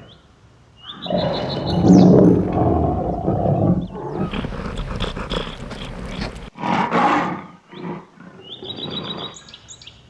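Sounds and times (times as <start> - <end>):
lion roaring and growling: 1.0 - 9.2.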